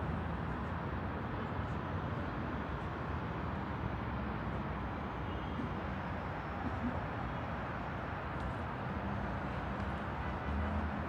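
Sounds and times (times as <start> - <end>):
distant city traffic hum: 0.0 - 11.0.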